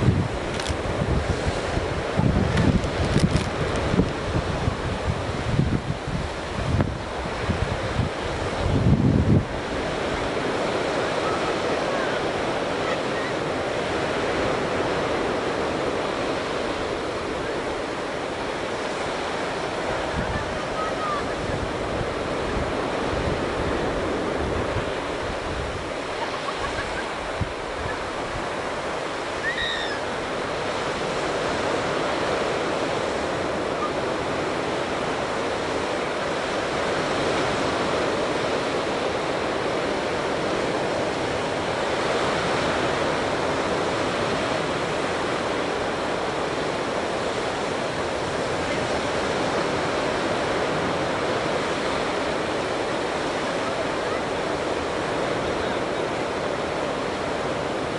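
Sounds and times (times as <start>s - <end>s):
ocean surf breaking: 0.0s - 57.9s
wind buffeting microphone: 0.0s - 57.9s.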